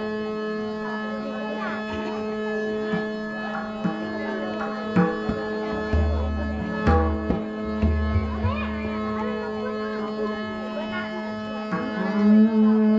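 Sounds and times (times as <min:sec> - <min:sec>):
harmonium chord: 0:00.0 - 0:12.9
tabla strokes: 0:01.5 - 0:12.9.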